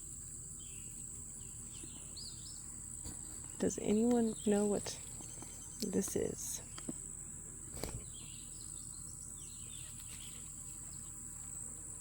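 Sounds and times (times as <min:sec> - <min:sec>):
insects singing: 0:00.0 - 0:12.0.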